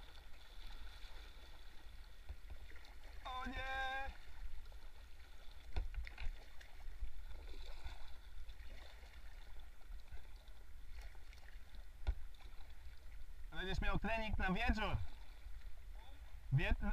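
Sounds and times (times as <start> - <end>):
water splashing around kayak: 0.0 - 16.9.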